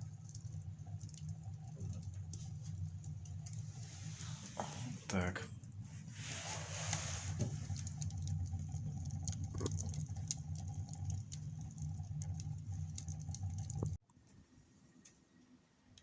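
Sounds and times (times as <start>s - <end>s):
low fire rumble: 0.0s - 14.0s
wood fire crackling: 0.0s - 14.0s.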